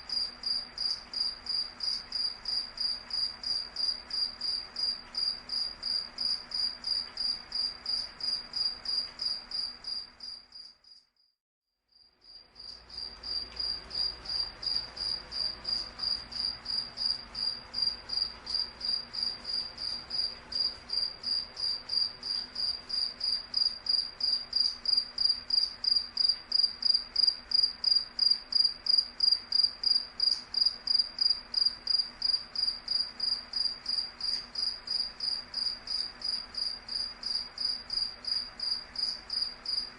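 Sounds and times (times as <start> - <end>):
cricket chirping: 0.0 - 11.3, 11.9 - 39.9.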